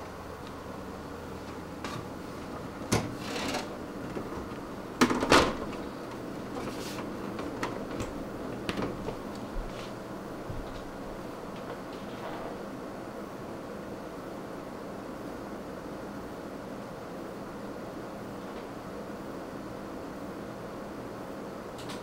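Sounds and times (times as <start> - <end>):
cooling fan humming: 0.0 - 22.0.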